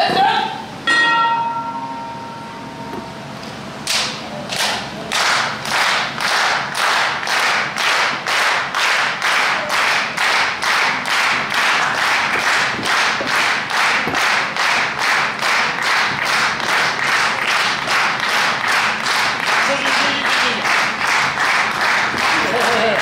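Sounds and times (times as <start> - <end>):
crowd clapping in rhythm: 3.9 - 23.0.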